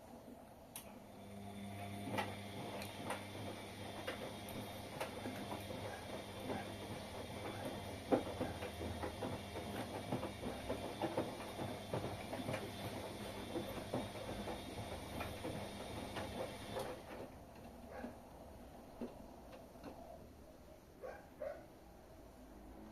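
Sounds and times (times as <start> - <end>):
washing machine running: 0.0 - 20.3.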